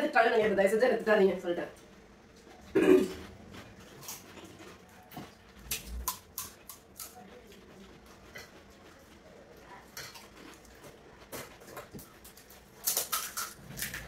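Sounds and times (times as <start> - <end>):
people eating crunchy food: 2.2 - 14.0.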